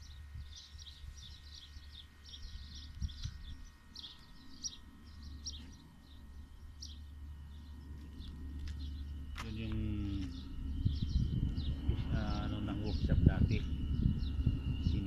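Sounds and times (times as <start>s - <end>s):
low rumble: 0.0s - 15.0s
small birds chirping: 0.0s - 15.0s.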